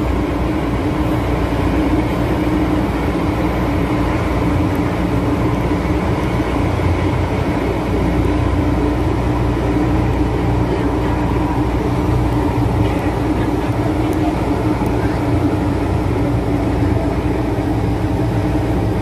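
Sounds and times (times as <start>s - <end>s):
steady hum: 0.0s - 19.0s
train wheels rumbling on rail: 0.0s - 19.0s.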